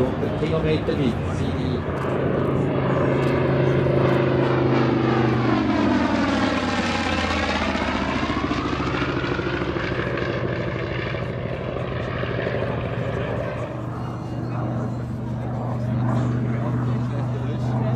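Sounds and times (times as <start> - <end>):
propeller plane flying past: 0.0 - 17.9.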